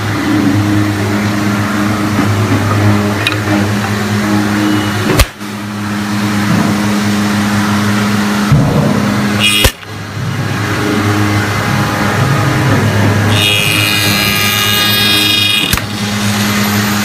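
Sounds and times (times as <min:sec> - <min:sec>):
wood machine motor hum: 0:00.0 - 0:17.0.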